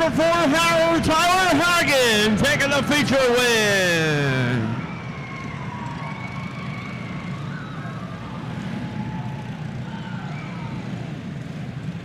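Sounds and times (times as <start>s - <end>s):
kart engines whining: 0.0s - 12.0s.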